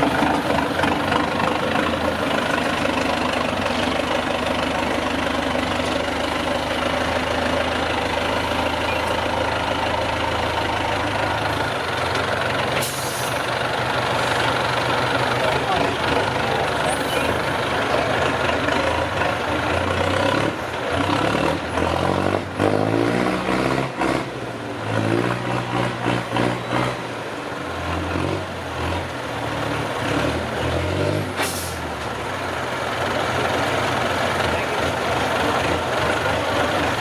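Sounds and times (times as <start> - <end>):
truck engine revving under load: 0.0 - 37.0.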